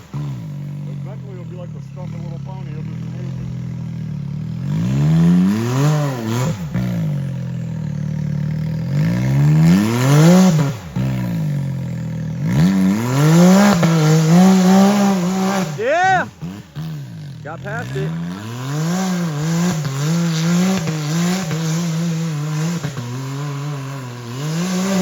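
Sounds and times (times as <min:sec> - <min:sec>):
utv engine revving: 0:00.0 - 0:25.0.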